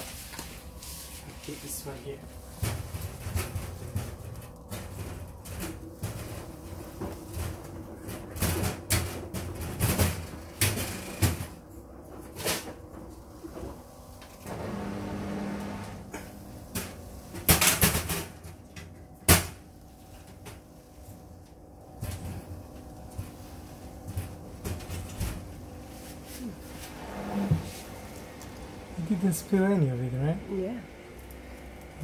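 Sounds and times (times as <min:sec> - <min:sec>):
steady motor hum: 0:00.0 - 0:32.0.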